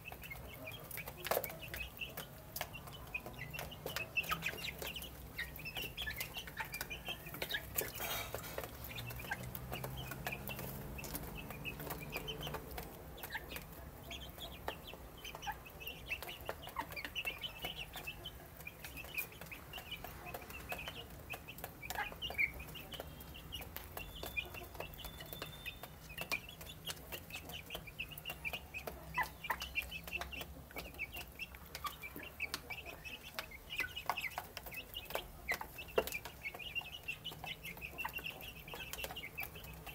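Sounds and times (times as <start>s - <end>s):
beaks pecking at dish: 0.0s - 39.9s
chicks peeping: 0.0s - 39.9s.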